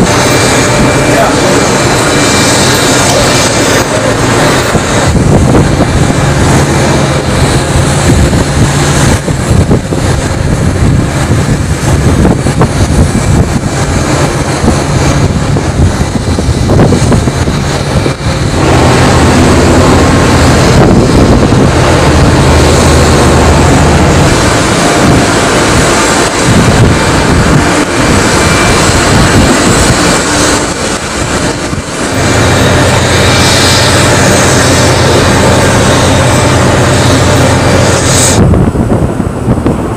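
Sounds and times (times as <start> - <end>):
ship engine rumble: 0.0 - 39.9
wind on microphone: 0.0 - 39.9.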